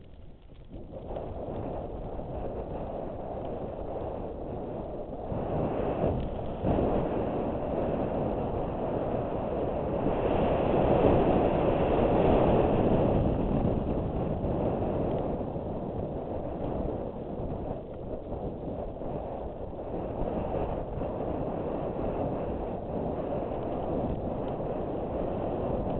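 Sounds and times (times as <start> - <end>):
bike tyres rumbling over dirt: 0.0 - 25.9
wind buffeting microphone: 0.0 - 25.9.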